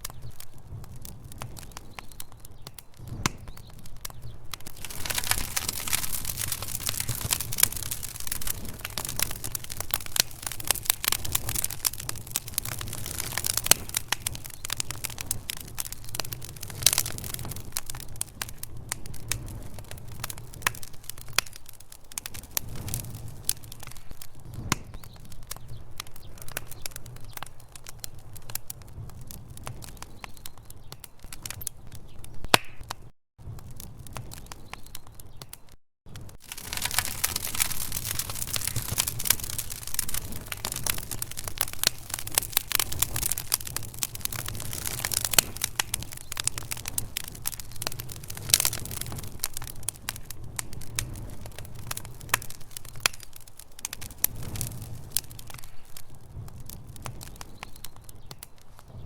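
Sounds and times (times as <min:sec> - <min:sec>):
low fire rumble: 0:00.0 - 0:32.6, 0:33.4 - 0:59.0
logs crackling and popping: 0:00.0 - 0:59.0.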